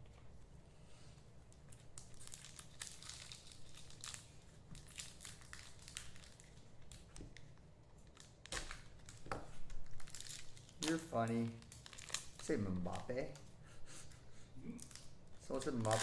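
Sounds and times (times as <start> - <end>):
card wrappers crinkling and tearing: 1.7 - 13.4, 14.7 - 16.0.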